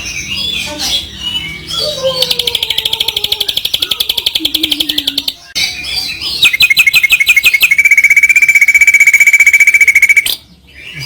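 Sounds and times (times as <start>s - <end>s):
songbird trilling: 0.0s - 10.4s.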